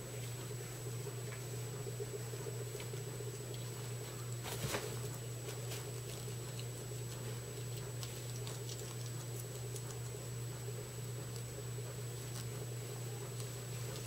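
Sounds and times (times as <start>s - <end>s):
guinea pigs chewing greens: 0.0s - 14.0s.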